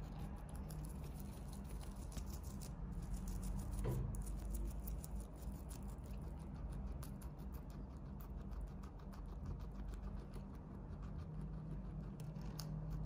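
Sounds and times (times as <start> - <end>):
guinea pig chewing leaves: 0.0 - 13.0.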